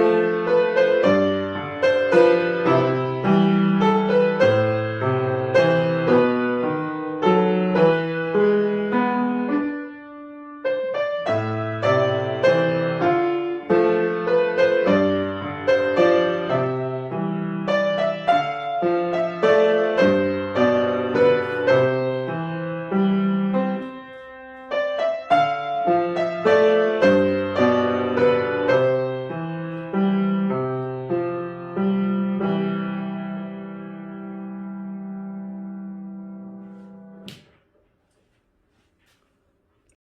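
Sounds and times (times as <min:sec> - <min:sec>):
solo piano piece: 0:00.0 - 0:37.7.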